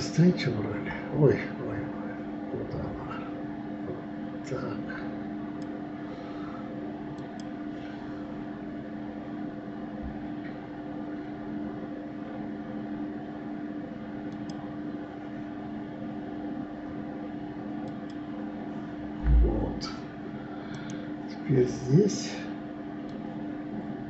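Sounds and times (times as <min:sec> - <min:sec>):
computer cooling fan hum: 0:00.0 - 0:24.0.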